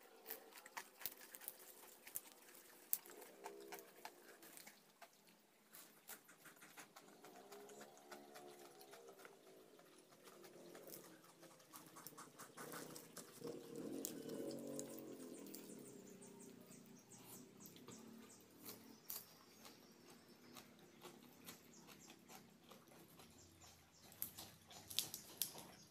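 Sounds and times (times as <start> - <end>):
chewing lettuce with wet crackles: 0.0 - 25.9.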